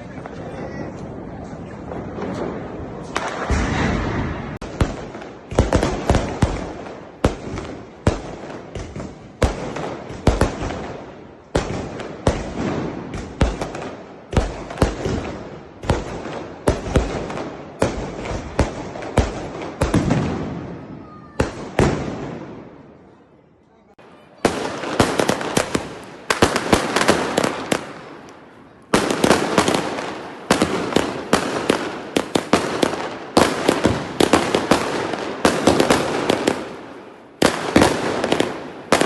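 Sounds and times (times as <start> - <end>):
fireworks banging: 0.0 - 23.2, 23.9 - 39.0.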